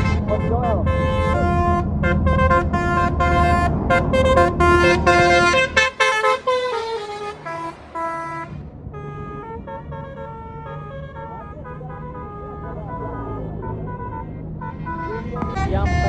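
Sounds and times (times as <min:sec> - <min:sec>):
bus engine rumble: 0:00.0 - 0:16.0
musical bus horn: 0:00.0 - 0:16.0.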